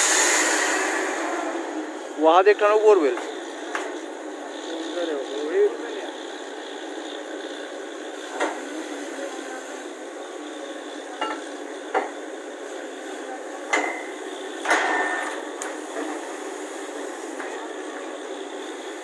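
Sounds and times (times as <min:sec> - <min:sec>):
steady machinery noise: 0:00.0 - 0:19.0.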